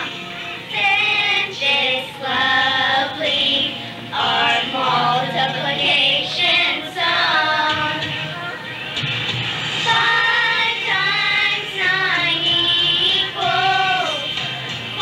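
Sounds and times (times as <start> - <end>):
girls singing: 0.0 - 8.5, 9.8 - 15.0.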